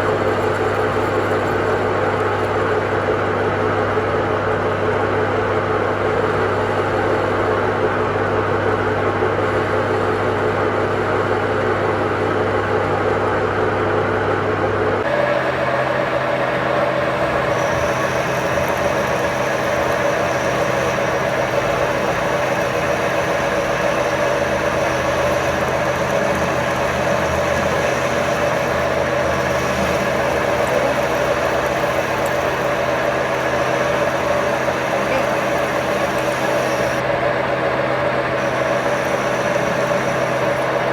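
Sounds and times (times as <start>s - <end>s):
machine humming: 0.0s - 40.9s.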